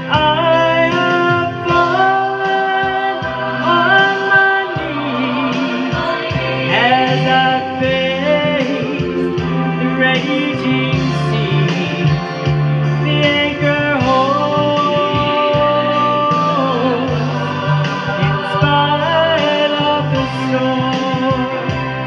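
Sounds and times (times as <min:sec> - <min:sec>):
guitar accompaniment: 0:00.0 - 0:22.0
person singing gospel song: 0:00.0 - 0:22.0.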